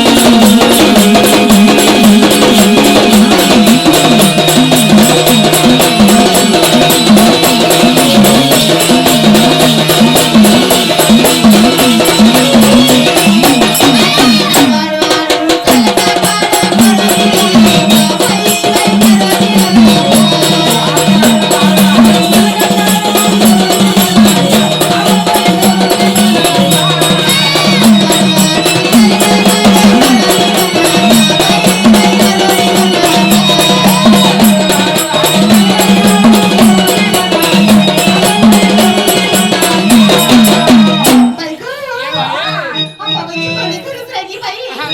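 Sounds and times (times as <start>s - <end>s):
fast steady drumming: 0.0s - 42.5s
jangling percussion: 0.0s - 44.9s
wavering melody: 0.0s - 44.9s.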